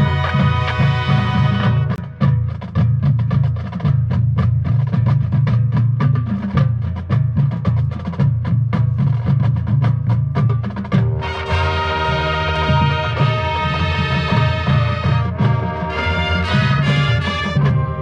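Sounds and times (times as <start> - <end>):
rapid drum strokes: 0.0 - 18.0.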